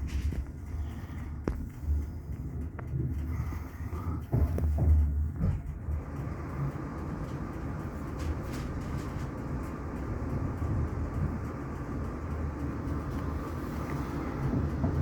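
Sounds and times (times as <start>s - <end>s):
faint track clicks: 0.0s - 15.0s
train rumbling: 0.0s - 15.0s.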